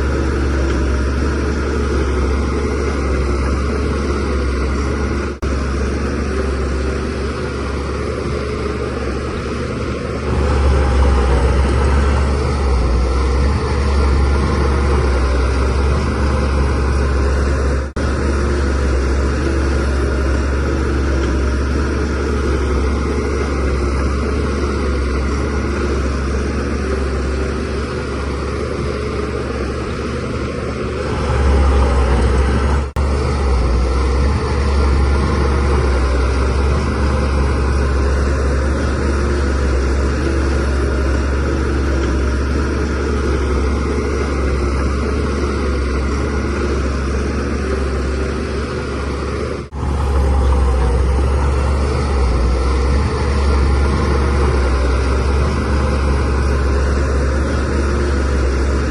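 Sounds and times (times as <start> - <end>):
bulldozer diesel engine under load: 0.0 - 58.9.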